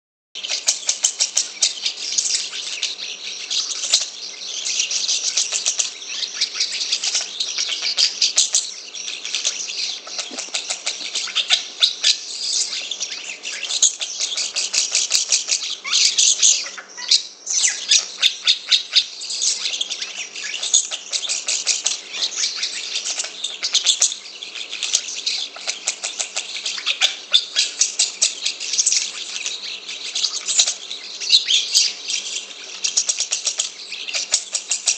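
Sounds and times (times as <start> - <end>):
starling chattering: 0.4 - 34.9.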